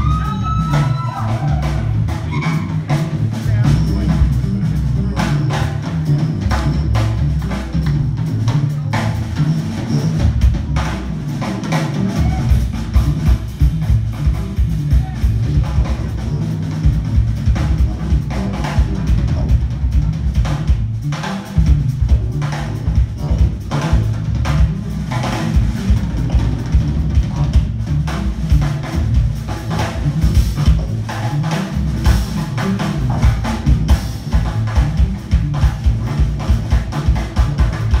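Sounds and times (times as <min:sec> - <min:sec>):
heavy bass line: 0:00.0 - 0:38.0
jazz-fusion band playing live: 0:00.0 - 0:38.0.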